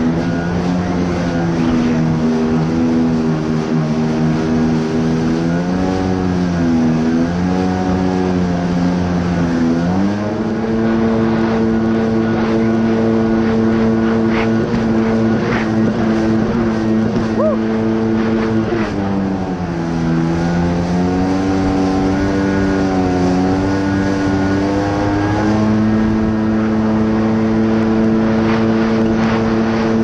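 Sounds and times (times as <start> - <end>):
jet ski engine droning: 0.0 - 30.0.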